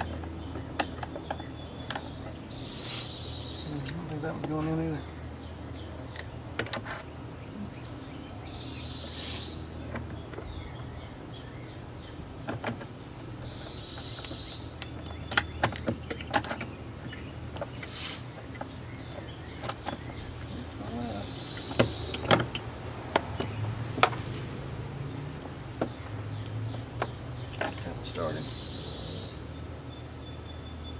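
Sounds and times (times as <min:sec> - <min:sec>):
bird chirping: 0:00.0 - 0:30.9.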